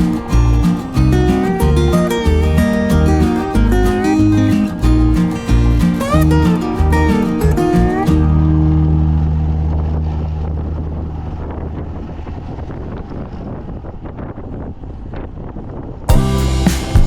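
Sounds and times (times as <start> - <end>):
low steady hum: 0.0 - 14.1
wind buffeting a microphone: 0.0 - 16.3.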